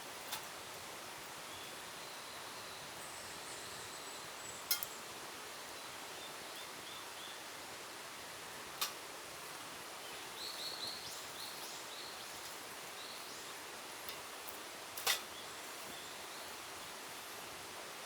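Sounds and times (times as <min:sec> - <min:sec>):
steady forest hiss: 0:00.0 - 0:18.0.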